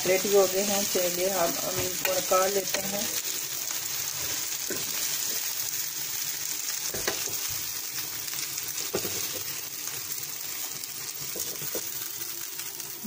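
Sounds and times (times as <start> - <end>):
kebabs sizzling on grill: 0.0 - 13.0.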